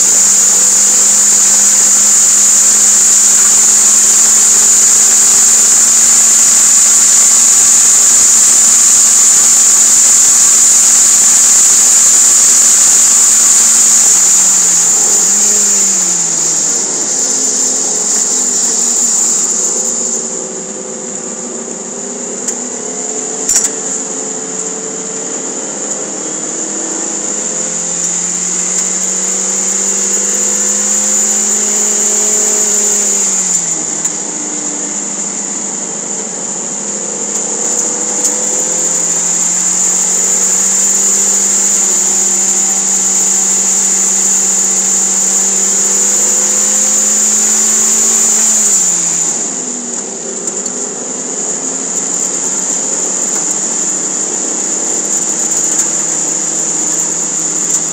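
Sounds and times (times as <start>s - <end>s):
car engine revving: 0.0s - 57.9s
high-pitched whine: 0.0s - 57.9s.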